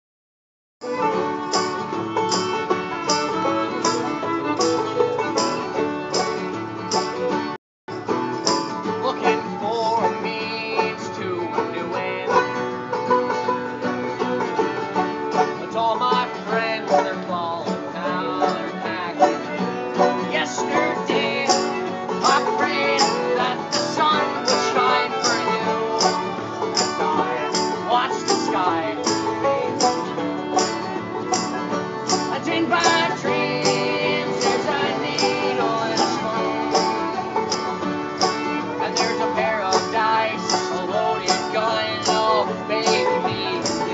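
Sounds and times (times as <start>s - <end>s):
bluegrass string band playing: 0.8s - 43.9s.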